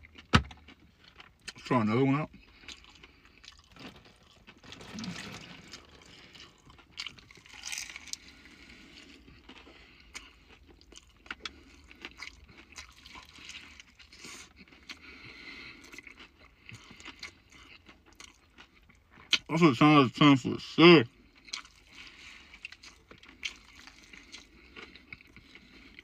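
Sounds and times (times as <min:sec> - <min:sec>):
crunching and chewing fried chicken: 0:00.0 - 0:26.0.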